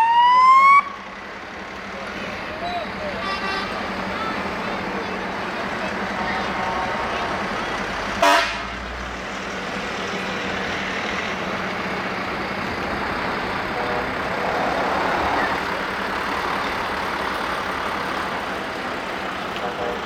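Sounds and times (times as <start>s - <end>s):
heavy truck engines droning: 0.0s - 20.0s.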